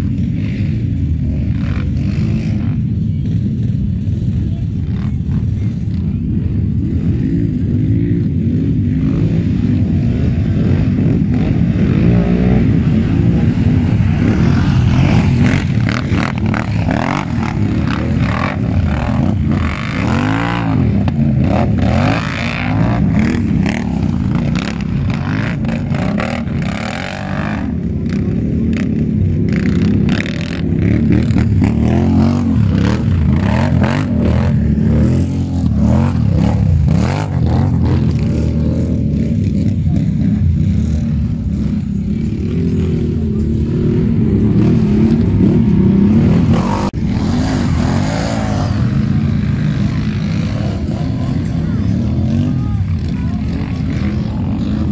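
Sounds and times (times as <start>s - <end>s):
atv engines revving: 0.0s - 54.9s.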